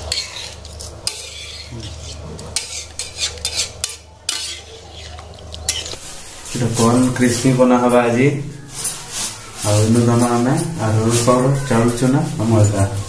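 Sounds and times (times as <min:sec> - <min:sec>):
metal utensil stirring in pot: 0:00.0 - 0:12.6.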